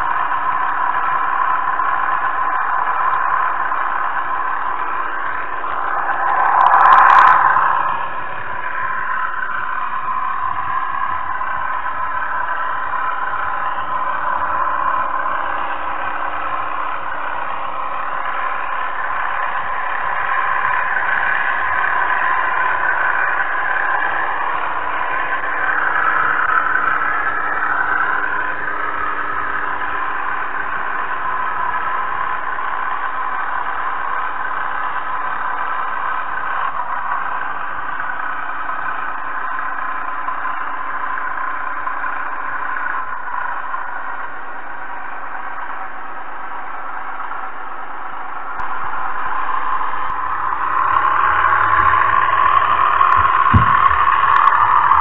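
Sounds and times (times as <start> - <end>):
electric motor whirr: 0.0 - 43.4, 48.1 - 55.0
wheels rattling on rails: 0.0 - 55.0.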